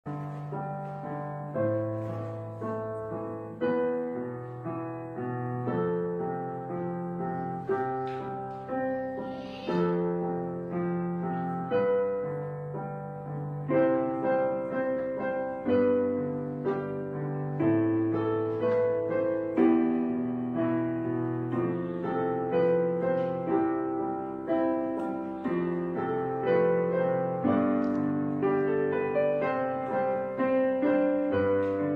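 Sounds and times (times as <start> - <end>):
slow solo piano music: 0.0 - 31.9.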